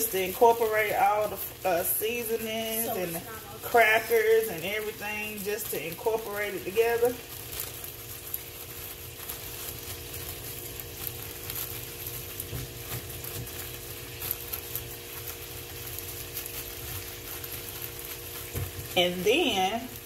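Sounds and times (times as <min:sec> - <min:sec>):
food sizzling in a pan: 0:00.0 - 0:20.0
plastic bag crinkling: 0:00.0 - 0:20.0.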